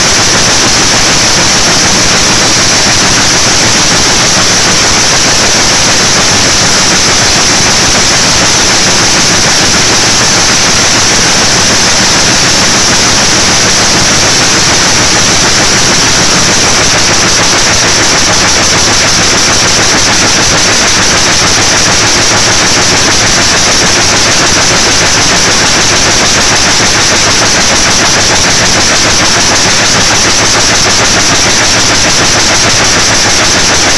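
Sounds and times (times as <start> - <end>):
weaving loom clattering: 0.0 - 33.9.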